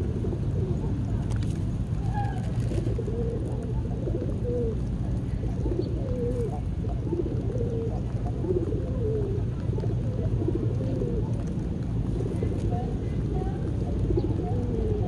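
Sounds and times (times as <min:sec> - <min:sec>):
low rumble: 0:00.0 - 0:15.0
pigeons cooing: 0:00.0 - 0:15.0.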